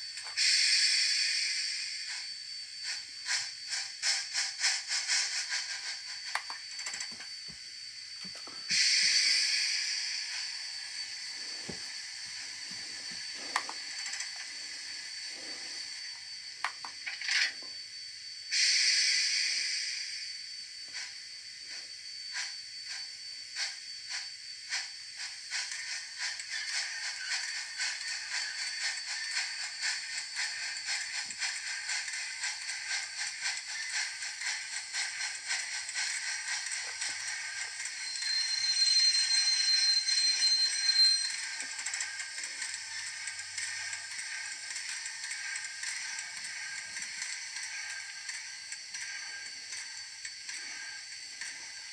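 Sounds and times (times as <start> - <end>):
faint high whine: 0.0 - 51.9
steam hiss: 0.0 - 51.9
steam locomotive chuffing: 0.0 - 51.9.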